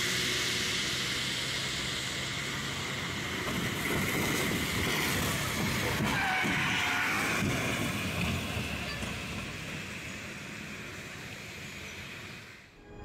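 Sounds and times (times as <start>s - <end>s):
traffic on wet road: 0.0s - 12.8s.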